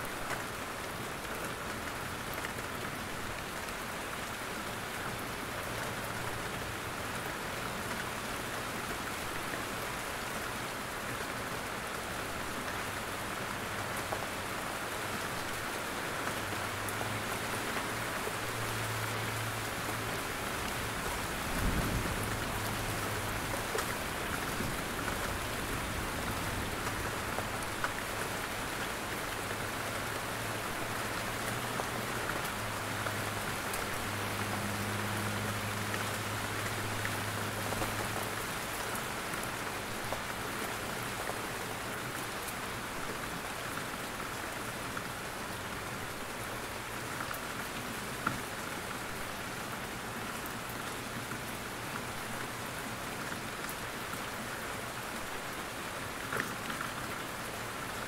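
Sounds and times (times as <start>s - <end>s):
rain falling through trees: 0.0s - 58.0s.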